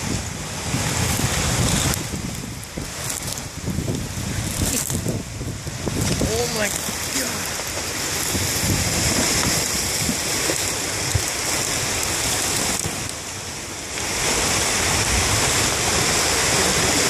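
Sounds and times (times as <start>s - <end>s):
ice scraping along rocky bank: 0.0s - 17.0s
river ice and water rushing: 0.0s - 17.0s.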